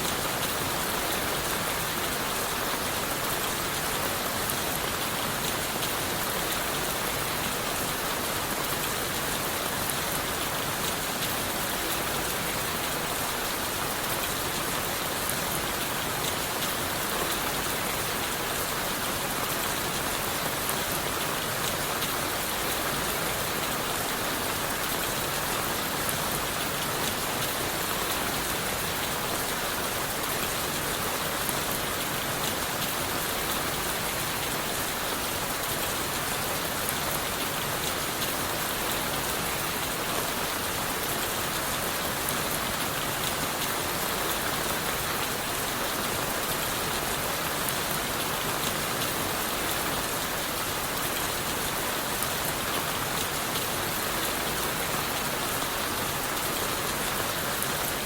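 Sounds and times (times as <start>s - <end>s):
steady rain on leaves: 0.0s - 58.0s.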